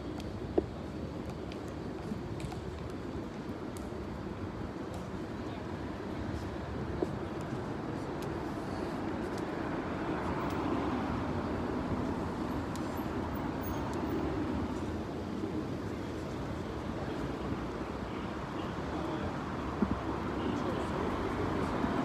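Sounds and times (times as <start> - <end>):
passing vehicles traffic noise: 0.0 - 22.0.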